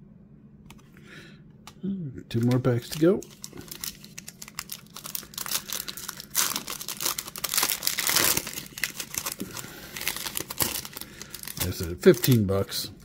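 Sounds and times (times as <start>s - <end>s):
foil wrapper tearing and crinkling: 2.3s - 12.9s.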